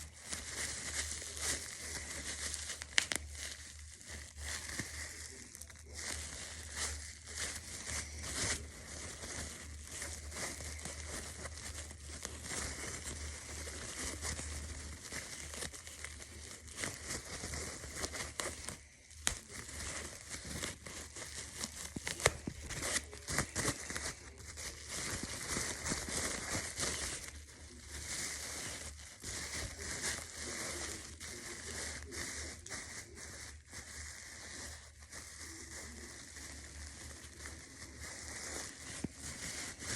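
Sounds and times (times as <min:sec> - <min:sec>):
crinkling and crackling: 0:00.0 - 0:39.9
faint low hum: 0:00.0 - 0:39.9.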